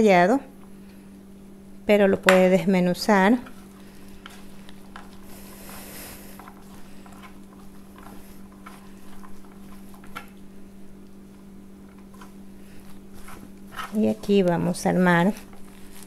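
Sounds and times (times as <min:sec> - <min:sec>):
steady low hum: 0:00.0 - 0:16.0
hands kneading soft dough: 0:00.3 - 0:16.0.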